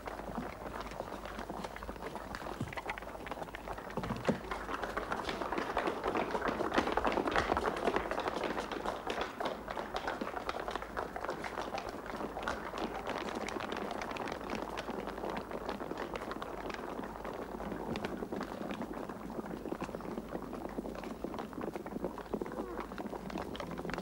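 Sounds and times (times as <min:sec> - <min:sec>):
people running on hard street: 0:03.7 - 0:24.0.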